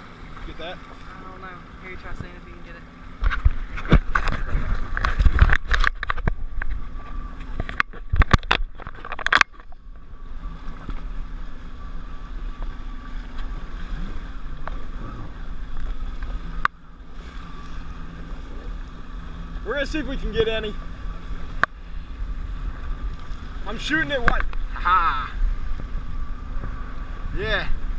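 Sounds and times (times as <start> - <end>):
jet ski engine hum: 0.0 - 27.9
water lapping: 0.0 - 27.9
wind buffeting microphone: 0.0 - 27.9.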